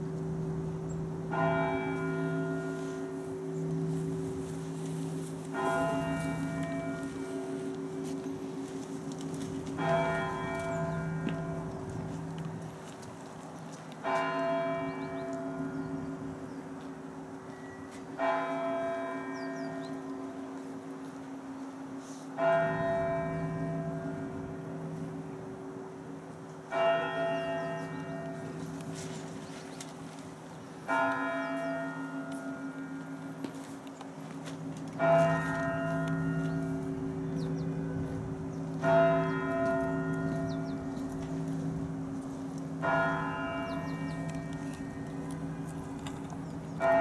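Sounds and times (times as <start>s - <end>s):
large church bell tolling: 0.0s - 13.0s, 14.0s - 30.1s, 30.8s - 33.7s, 34.5s - 47.0s.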